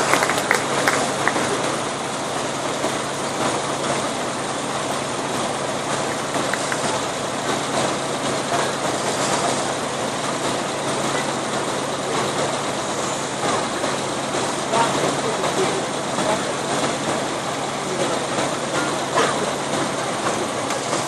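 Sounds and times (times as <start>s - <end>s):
crowd murmur: 0.0s - 21.0s.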